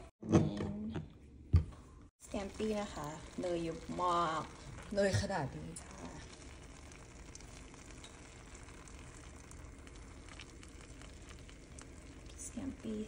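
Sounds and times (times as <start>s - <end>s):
butter sizzling in a pan: 2.2s - 13.0s.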